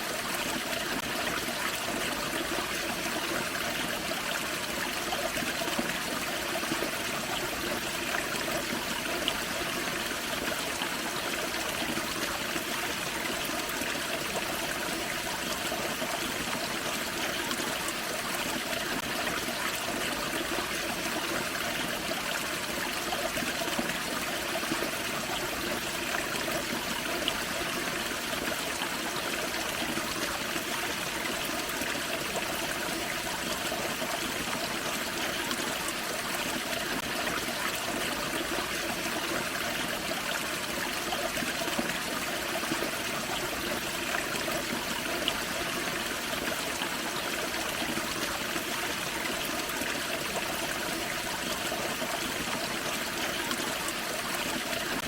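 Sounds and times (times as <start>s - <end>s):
creek water rushing: 0.0s - 55.0s
small waterfall splashing: 0.0s - 55.0s.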